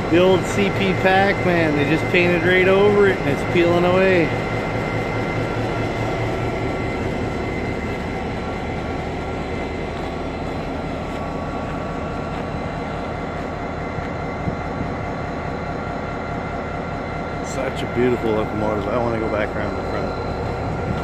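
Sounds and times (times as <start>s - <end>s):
diesel locomotive idling: 0.0s - 21.0s
thin whining tones: 0.0s - 21.0s.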